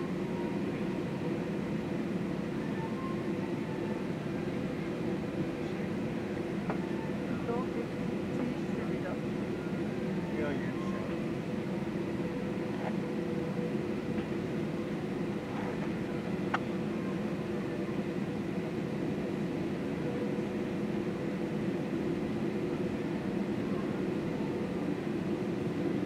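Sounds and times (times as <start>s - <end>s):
jet engines idling: 0.0s - 26.0s.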